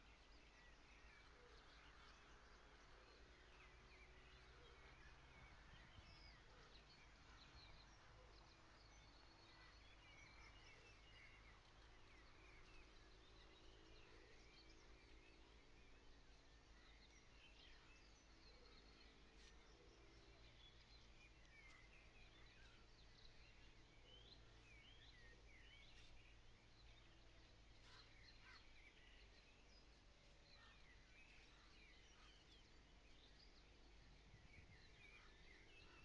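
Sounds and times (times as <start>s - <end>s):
distant songbirds singing: 0.0s - 36.0s.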